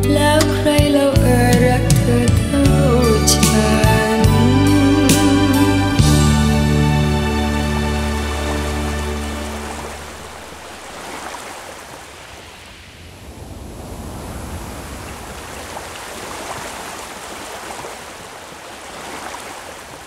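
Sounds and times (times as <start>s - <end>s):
rushing water: 2.4s - 20.0s.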